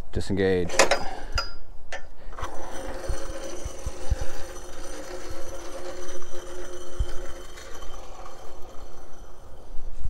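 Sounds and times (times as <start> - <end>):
winch drum whirring hum: 0.7 - 10.0.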